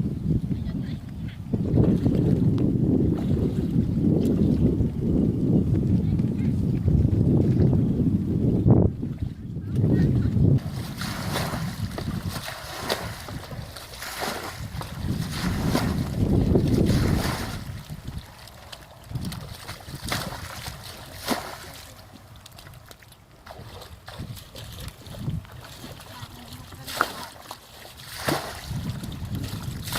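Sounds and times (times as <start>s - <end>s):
wind buffeting microphone: 0.0s - 22.8s, 23.5s - 29.9s.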